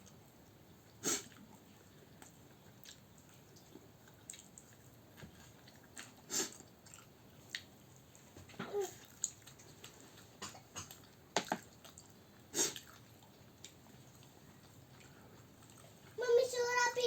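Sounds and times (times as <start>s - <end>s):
chewing and mouth noises: 0.0s - 16.2s.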